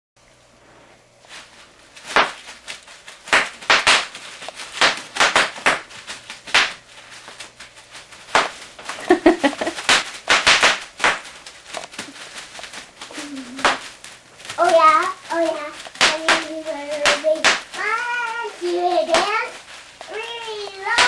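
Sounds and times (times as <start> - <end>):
bubble wrap popping: 1.2 - 21.0.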